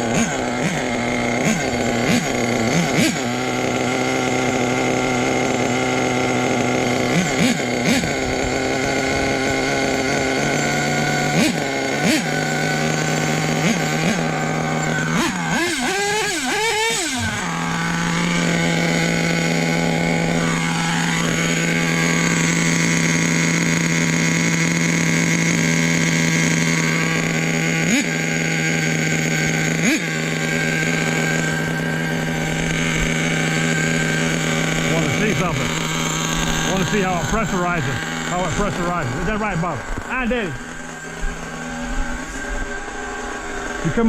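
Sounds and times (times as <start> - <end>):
small engine idling and revving: 0.0 - 44.0.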